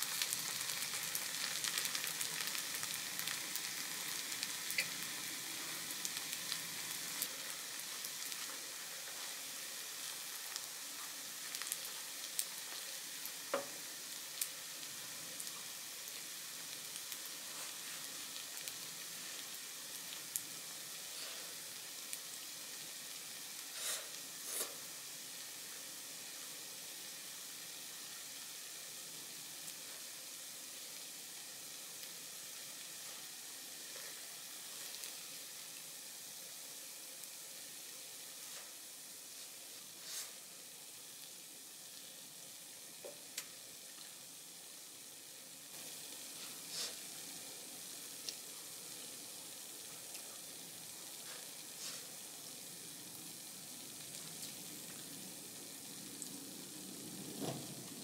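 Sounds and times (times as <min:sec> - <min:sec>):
rice and sauce sizzling in a pan: 0:00.0 - 0:58.0.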